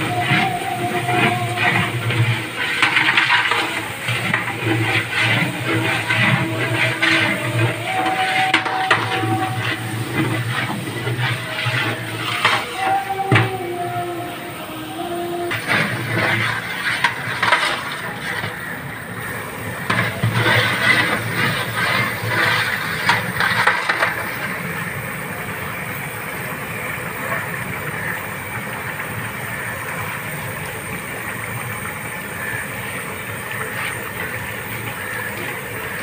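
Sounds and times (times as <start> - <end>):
water boiling hard in a pot: 0.0 - 36.0.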